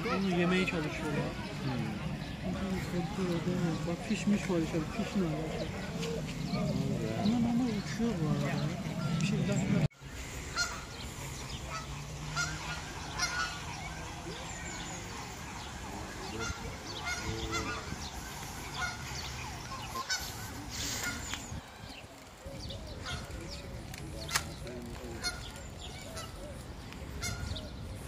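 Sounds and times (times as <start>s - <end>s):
birds honking: 0.0s - 27.9s.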